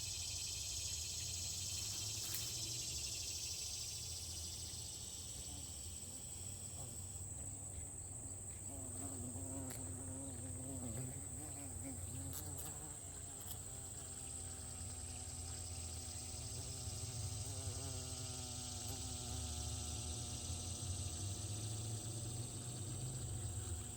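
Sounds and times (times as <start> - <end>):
flying insect buzzing: 0.0 - 23.9
high-pitched insect trill: 0.0 - 23.9.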